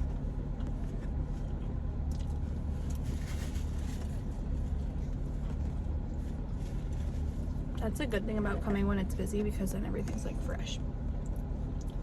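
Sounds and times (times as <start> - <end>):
air conditioning hum: 0.0 - 12.0
car engine idling: 0.0 - 12.0.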